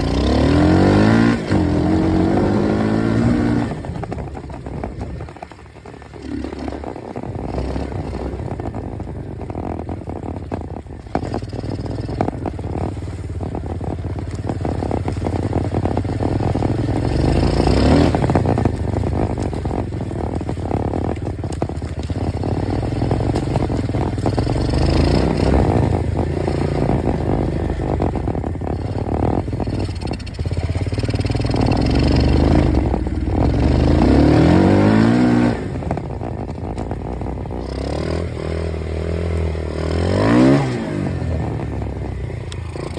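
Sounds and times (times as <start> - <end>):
dirt bike engine revving: 0.0 - 5.3, 6.1 - 42.9.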